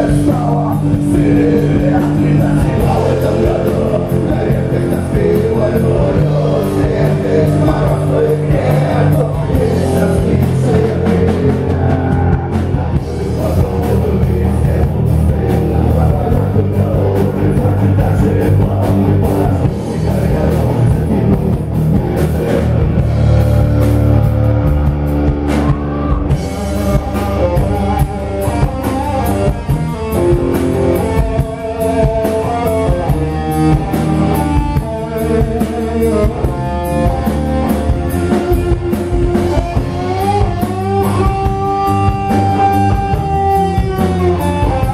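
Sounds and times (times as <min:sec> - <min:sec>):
guitar melody line: 0:00.0 - 0:44.9
rock band playing: 0:00.0 - 0:44.9.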